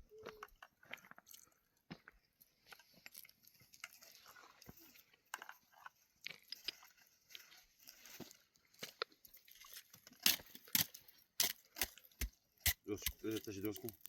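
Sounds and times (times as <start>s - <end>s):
irregular crunching: 2.7s - 14.0s.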